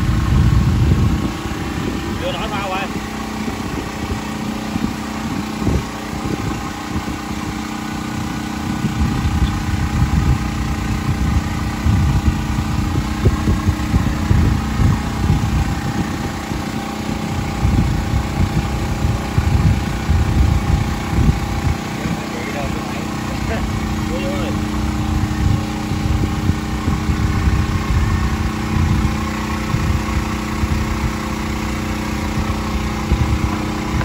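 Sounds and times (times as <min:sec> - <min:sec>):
small engine running: 0:00.0 - 0:34.0
wind rumble on microphone: 0:00.0 - 0:34.0.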